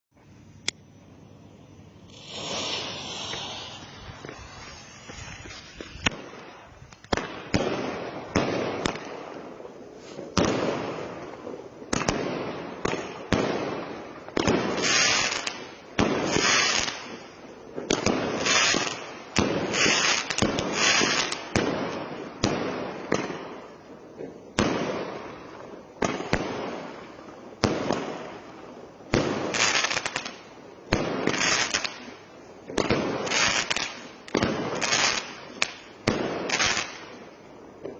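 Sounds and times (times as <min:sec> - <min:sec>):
firework bangs: 0:00.9 - 0:37.9
hissing firework spray: 0:01.7 - 0:24.4, 0:25.0 - 0:37.9.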